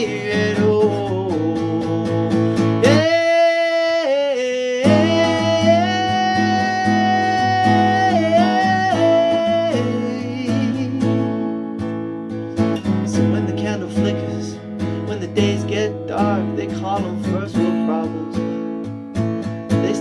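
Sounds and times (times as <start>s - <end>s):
strummed acoustic guitar: 0.0s - 20.0s.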